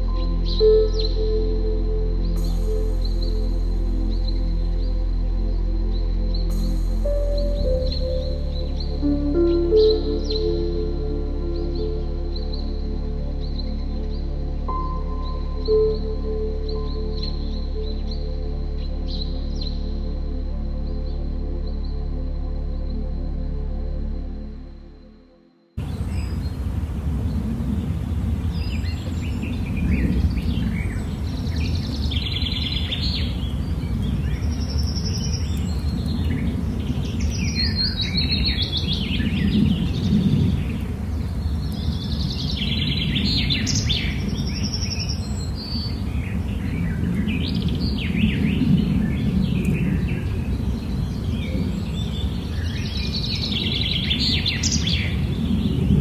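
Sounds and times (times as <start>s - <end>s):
birds chirping and singing: 0.0s - 20.0s, 25.8s - 56.0s
low rumble: 0.0s - 56.0s.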